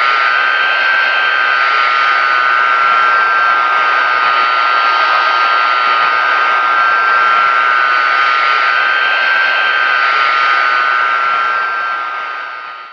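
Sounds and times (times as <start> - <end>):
jet engines whining: 0.0 - 12.9.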